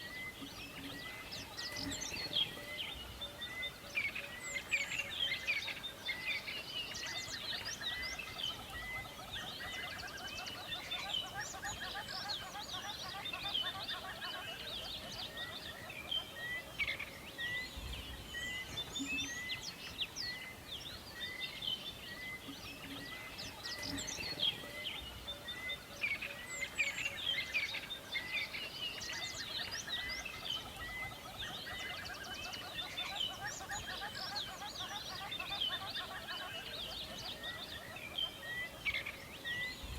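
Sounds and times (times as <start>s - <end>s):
forest birds singing and chirping: 0.0s - 39.9s.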